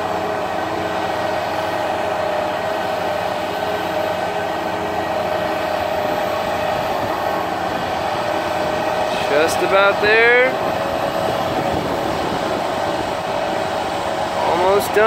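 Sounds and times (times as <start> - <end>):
constant hum: 0.0 - 15.0
pile driver engine droning under load: 0.0 - 15.0.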